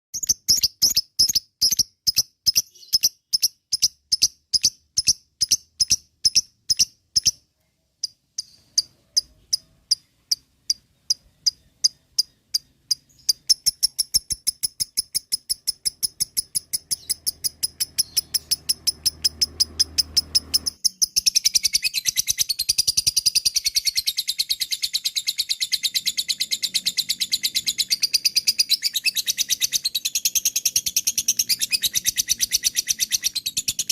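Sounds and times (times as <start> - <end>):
lovebird chirping and chattering: 0.2 - 33.9.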